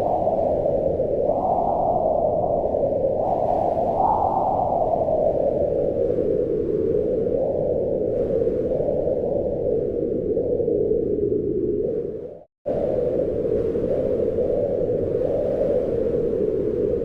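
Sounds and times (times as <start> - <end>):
wind rushing in gusts: 0.0 - 17.0.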